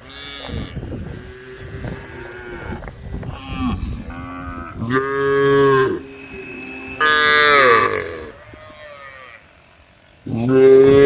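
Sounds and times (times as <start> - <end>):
cows mooing: 0.0 - 9.6.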